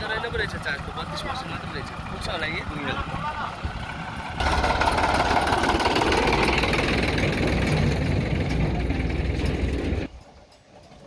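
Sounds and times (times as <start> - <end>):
tractor diesel engine clattering: 0.0 - 11.0.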